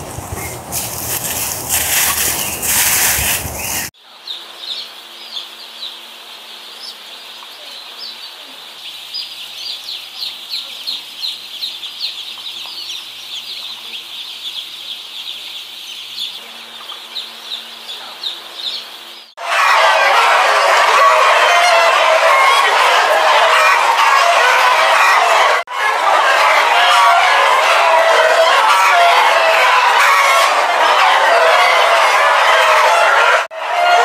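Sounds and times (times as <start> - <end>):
chicks peeping: 0.0 - 34.0.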